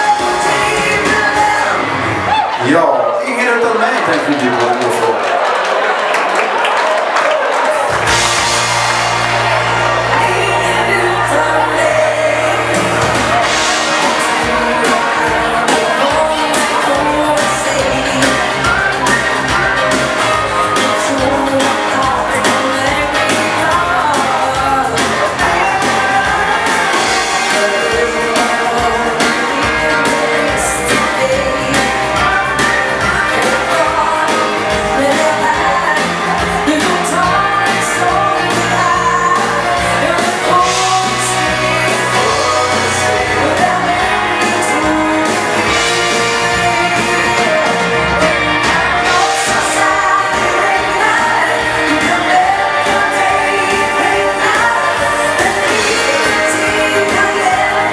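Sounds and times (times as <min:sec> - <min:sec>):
person singing: 0:00.0 - 0:04.0, 0:07.9 - 0:57.9
electric guitars: 0:00.0 - 0:57.9
steady drum beat: 0:07.7 - 0:57.9.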